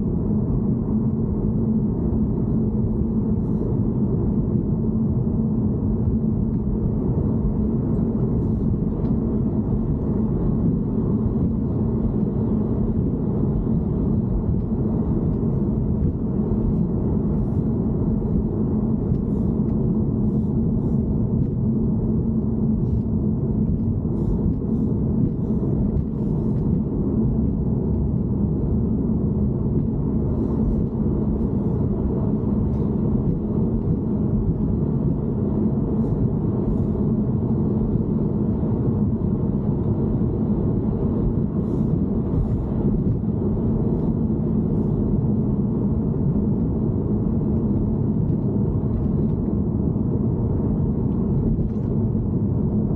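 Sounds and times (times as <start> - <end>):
car low rumble: 0.0 - 52.9
constant hum: 0.0 - 52.9.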